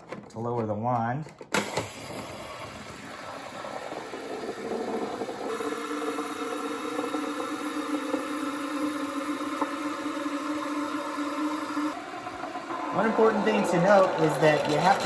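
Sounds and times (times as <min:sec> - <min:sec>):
coffee machine hissing: 0:01.6 - 0:15.0
pump humming: 0:01.9 - 0:15.0.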